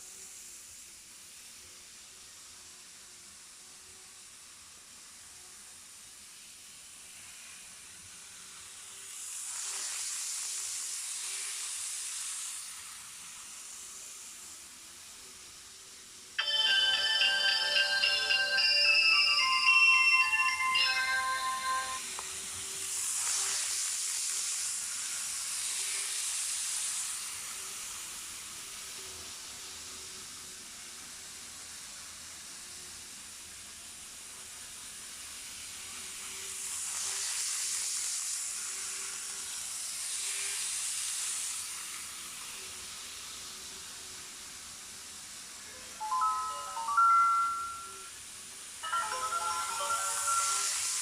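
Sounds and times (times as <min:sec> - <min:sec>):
model train running on track: 0:00.0 - 0:51.0.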